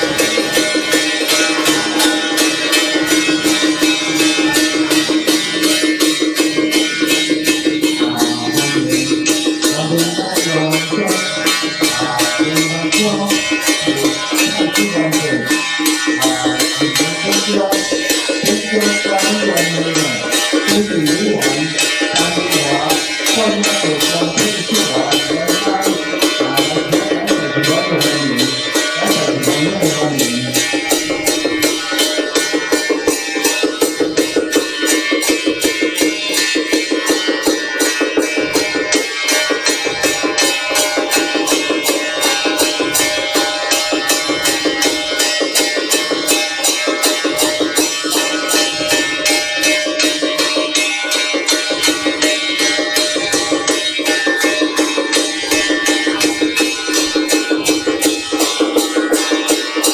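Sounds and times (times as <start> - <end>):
percussion fast beat: 0.0 - 59.9.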